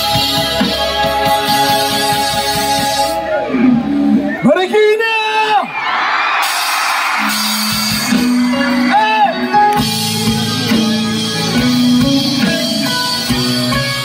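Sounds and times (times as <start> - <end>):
crowd cheering: 0.0 - 11.8
live band playing: 0.0 - 14.0.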